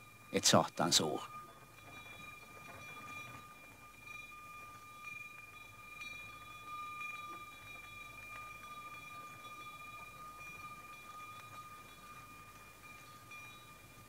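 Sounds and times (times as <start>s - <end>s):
small bell ringing: 0.0s - 14.0s.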